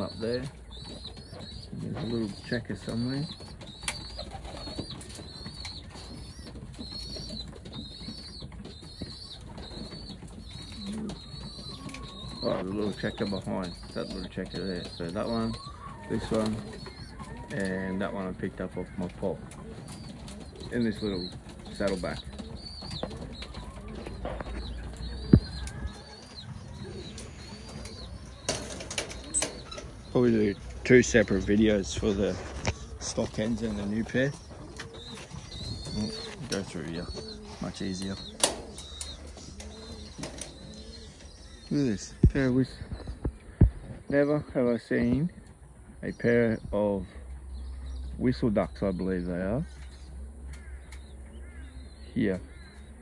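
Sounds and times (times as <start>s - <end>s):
pigeons cooing: 0.0s - 53.0s.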